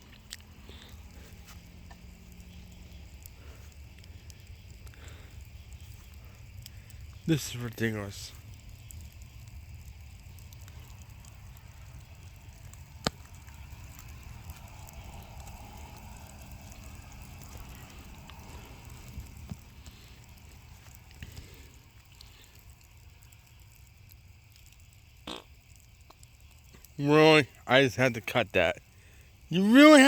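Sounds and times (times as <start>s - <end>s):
low background rumble: 0.0s - 7.3s, 8.3s - 25.1s
faint ticks: 0.0s - 29.5s.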